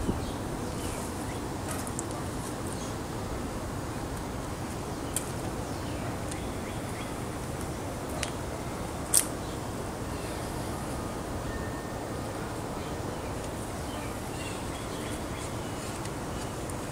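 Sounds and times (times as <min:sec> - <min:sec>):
outdoor background noise: 0:00.0 - 0:16.9.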